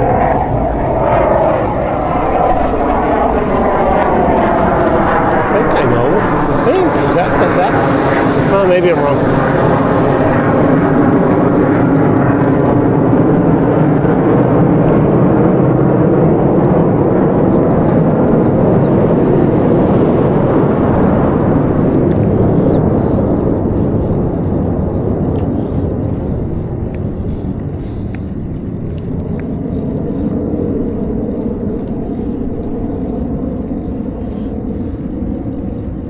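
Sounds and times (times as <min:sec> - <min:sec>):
wind rushing over microphone: 0:00.0 - 0:36.0.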